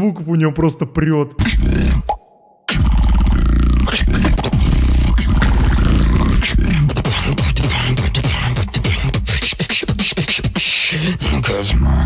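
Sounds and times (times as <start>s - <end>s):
beatboxing with overdriven bass: 1.4s - 12.0s.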